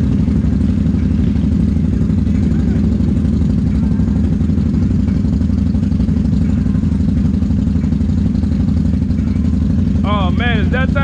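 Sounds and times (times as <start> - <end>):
atv engine rumbling: 0.0 - 11.0.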